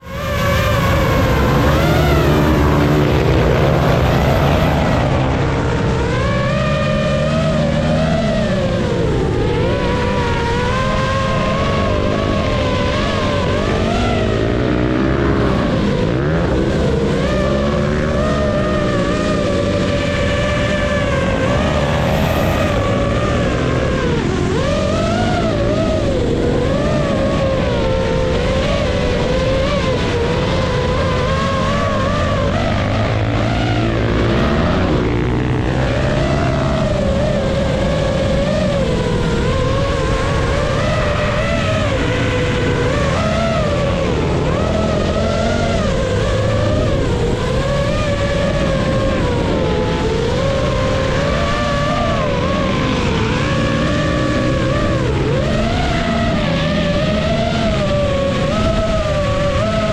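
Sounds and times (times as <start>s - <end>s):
drone propellers whining: 0.0s - 59.9s
low engine rumble: 0.0s - 59.9s.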